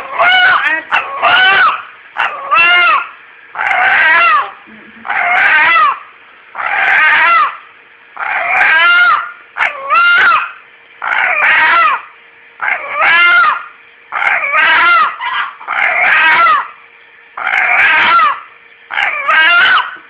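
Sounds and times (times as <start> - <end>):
pet animal wailing call: 0.0 - 16.8, 17.4 - 20.0.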